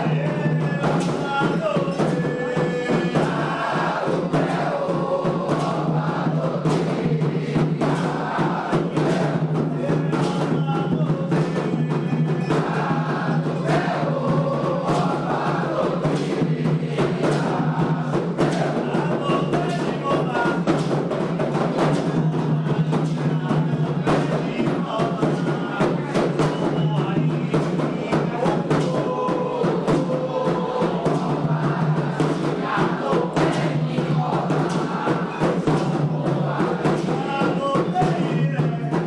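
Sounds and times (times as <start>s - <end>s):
group chanting: 0.0s - 39.0s
hand drums beating: 0.0s - 39.0s.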